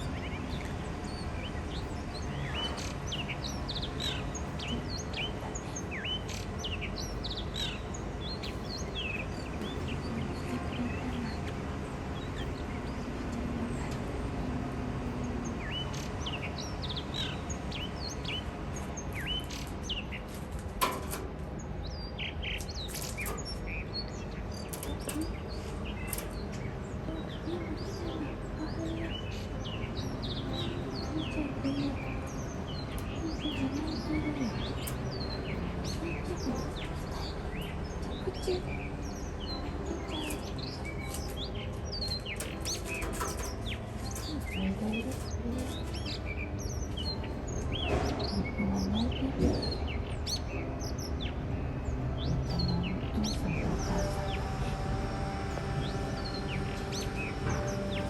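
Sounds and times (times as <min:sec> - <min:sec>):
birds chirping and warbling: 0:00.0 - 0:58.0
low background hum: 0:00.0 - 0:58.0.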